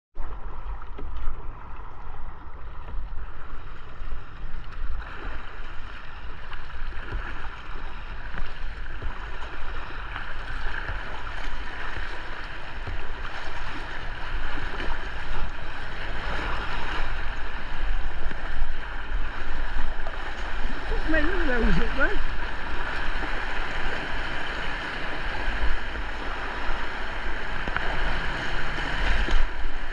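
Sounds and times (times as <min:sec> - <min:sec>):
kayak paddle strokes: 0:00.2 - 0:29.9
water washing along kayak hull: 0:00.2 - 0:29.9
wind rumble on microphone: 0:00.2 - 0:29.9
rushing broken water: 0:04.6 - 0:29.9.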